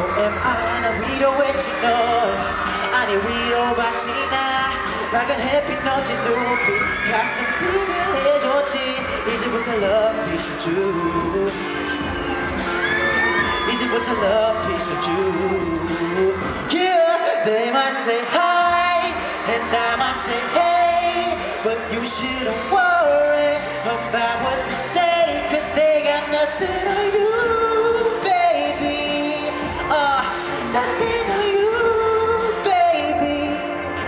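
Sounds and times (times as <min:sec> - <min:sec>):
man singing: 0:00.0 - 0:12.6, 0:13.2 - 0:34.0
pop backing track: 0:00.0 - 0:34.0.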